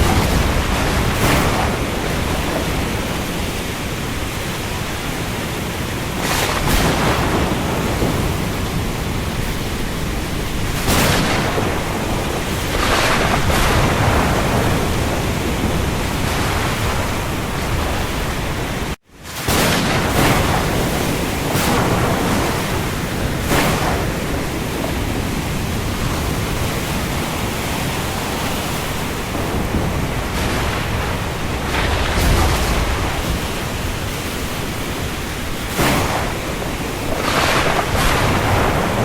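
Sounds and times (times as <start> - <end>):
rain hissing over sea: 0.0 - 39.0
waves surging: 0.0 - 39.0.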